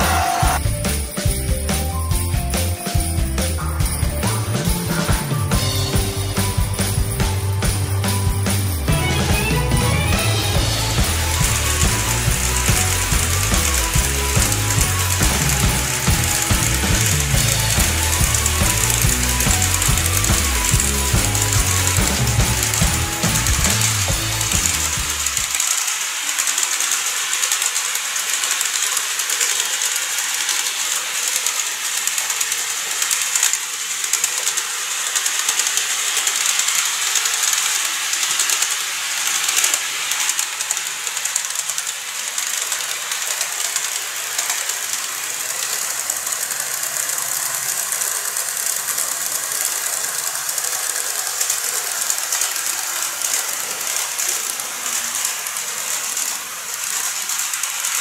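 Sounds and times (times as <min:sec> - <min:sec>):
model train whirring rattle: 0:00.0 - 0:58.0.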